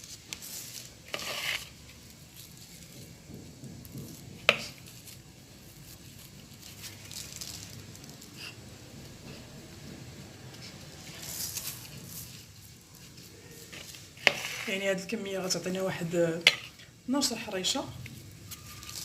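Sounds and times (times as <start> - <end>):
dough being worked by hand: 0.0 - 19.0
rustling: 0.0 - 19.0.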